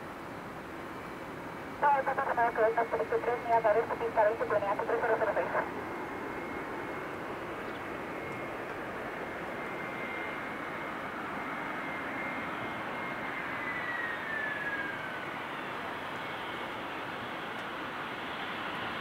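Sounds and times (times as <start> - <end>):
jet engines rushing and whining: 0.0 - 19.0.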